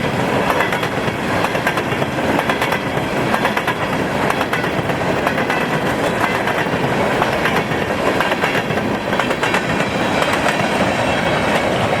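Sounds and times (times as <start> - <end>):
freight train rolling past: 0.0 - 12.0
wheels clicking over rail joints: 0.2 - 12.0.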